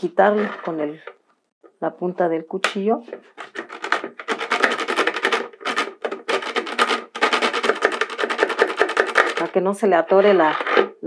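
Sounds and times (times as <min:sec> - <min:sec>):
knife scraping plastic bucket: 0:00.0 - 0:01.2, 0:03.0 - 0:11.0.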